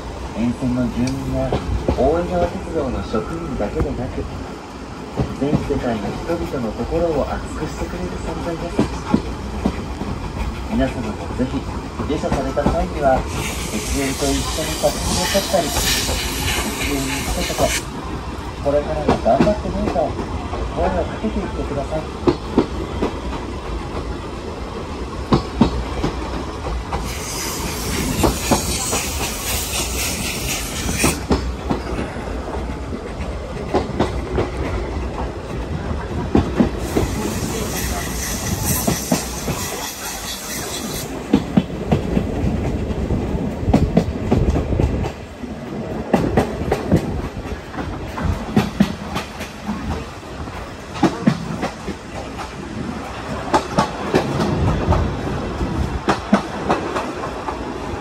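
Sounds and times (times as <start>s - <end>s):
train coach rumble: 0.0s - 58.0s
wheels clicking over rail joints: 5.1s - 58.0s.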